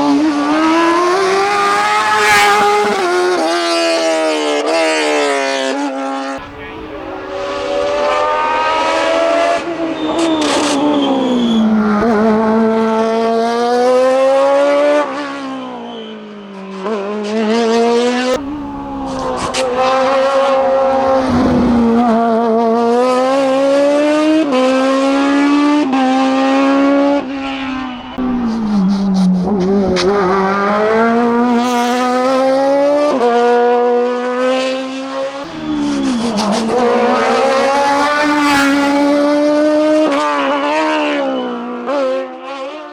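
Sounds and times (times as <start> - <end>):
race car engine driven hard: 0.0 - 42.9.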